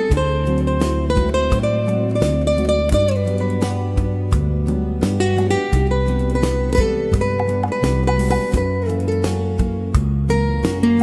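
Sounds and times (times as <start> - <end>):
plucked guitar: 0.0 - 11.0
walking bass line: 0.0 - 11.0.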